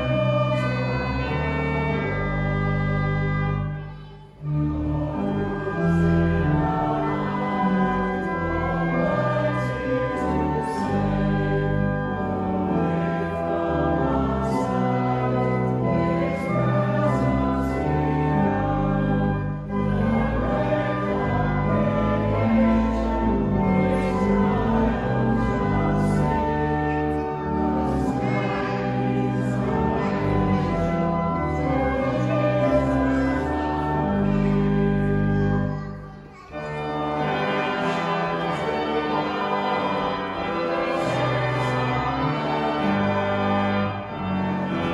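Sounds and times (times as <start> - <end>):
organ accompaniment: 0.0 - 44.9
voices singing a hymn: 0.0 - 44.9.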